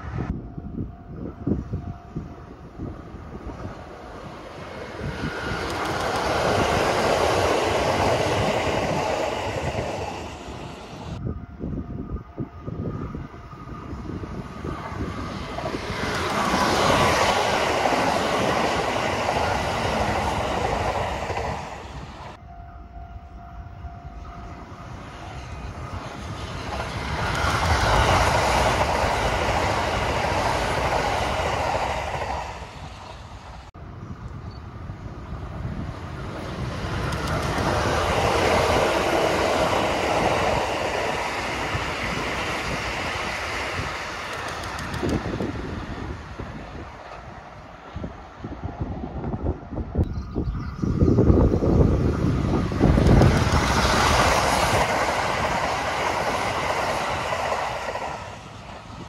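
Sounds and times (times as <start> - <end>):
trains passing on track: 0.0 - 59.0.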